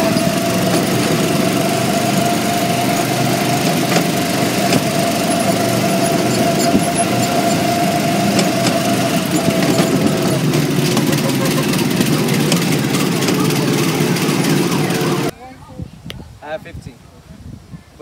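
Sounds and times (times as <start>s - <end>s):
go-kart engines running: 0.0s - 15.3s
high whine: 0.0s - 15.3s.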